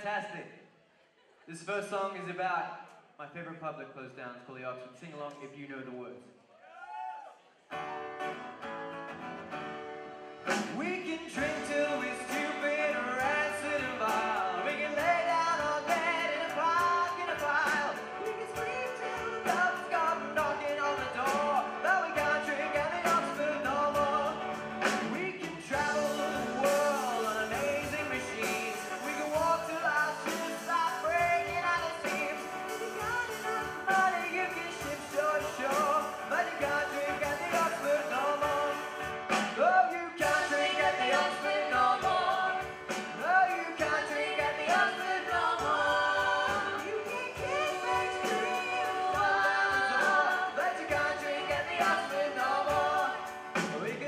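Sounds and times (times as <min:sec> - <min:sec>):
live band playing: 0:07.7 - 0:54.0
lead vocal singing: 0:10.5 - 0:54.0.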